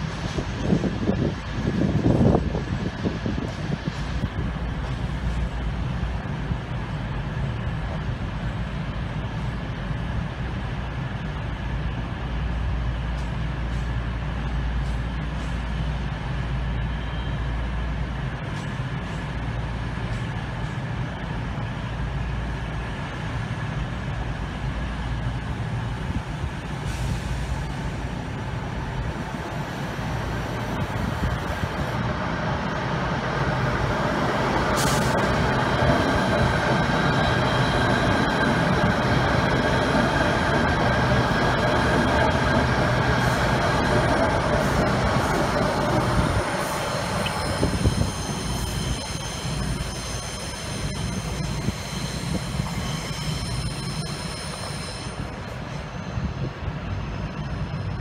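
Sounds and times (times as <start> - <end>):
diesel train engine rumbling: 0.0 - 58.0
electric train arriving: 0.0 - 58.0.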